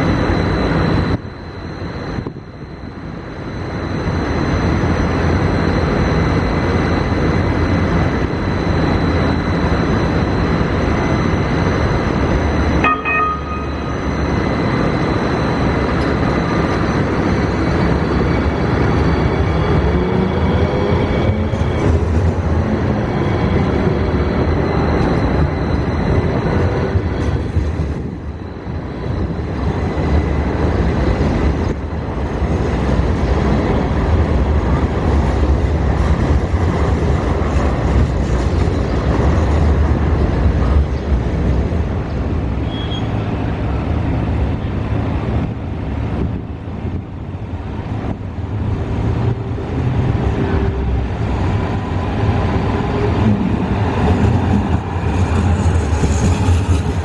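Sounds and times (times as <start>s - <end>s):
light rail cars rumbling on rails: 0.0s - 57.0s.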